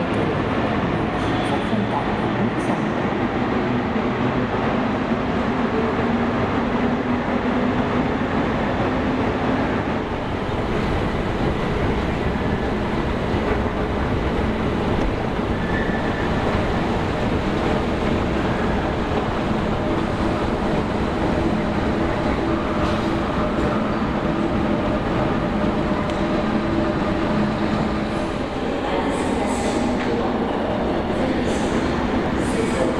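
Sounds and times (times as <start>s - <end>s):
train wheels rumbling on track: 0.1s - 32.9s.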